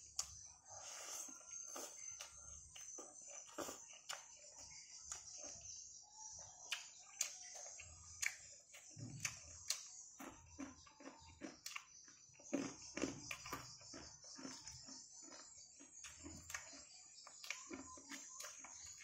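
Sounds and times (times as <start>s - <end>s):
crickets chirring: 0.0s - 19.0s
person chewing food: 0.0s - 19.0s.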